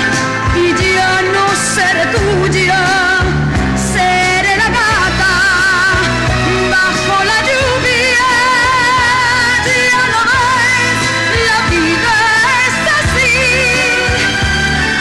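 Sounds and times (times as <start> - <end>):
pop band with bass: 0.0 - 15.0
woman singing with vibrato: 0.0 - 15.0.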